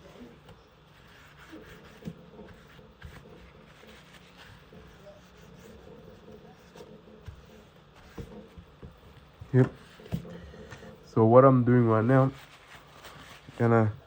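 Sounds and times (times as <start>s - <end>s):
cloth rubbing on screen: 0.0s - 10.3s, 11.8s - 14.0s
steady low hum: 0.0s - 14.0s.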